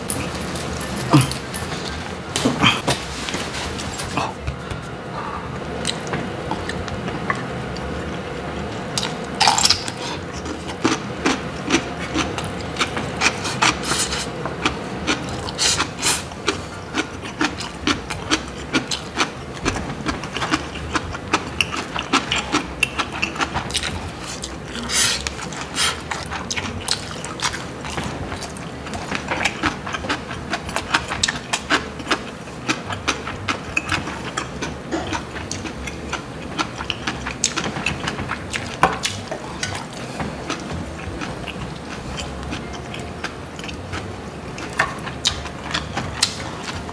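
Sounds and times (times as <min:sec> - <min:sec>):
steady hum: 0:00.0 - 0:46.9
wet chewing and smacking: 0:08.9 - 0:46.9.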